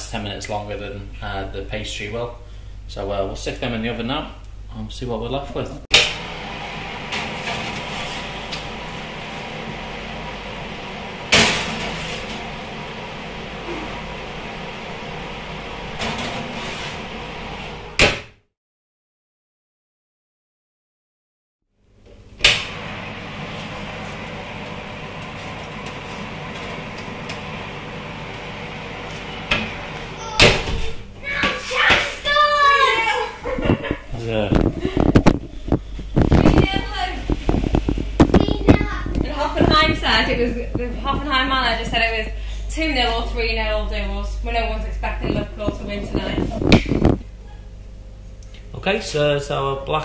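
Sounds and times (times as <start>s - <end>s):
steady hum: 0.0s - 18.2s, 21.8s - 50.0s.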